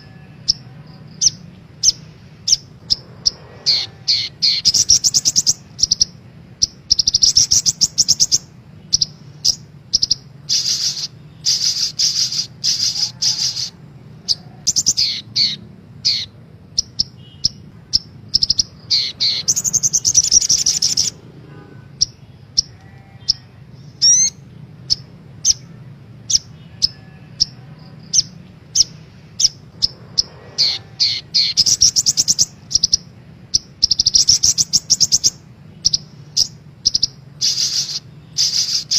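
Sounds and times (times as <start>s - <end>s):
bird trilling and chipping: 0.0s - 21.2s, 21.9s - 38.9s.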